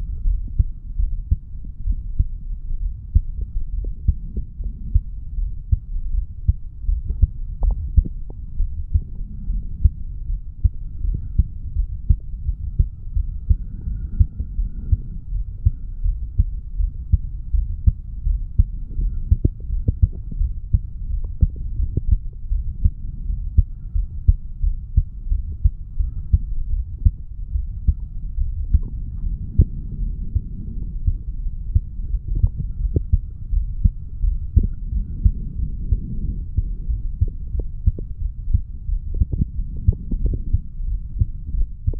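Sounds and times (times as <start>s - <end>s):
constant low rumble: 0.0s - 41.9s
heartbeat: 0.0s - 41.9s.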